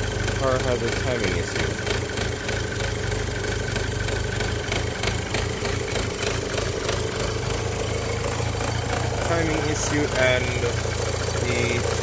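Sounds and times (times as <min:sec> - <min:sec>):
car engine idling: 0:00.0 - 0:12.0
light engine ticking: 0:00.0 - 0:12.0.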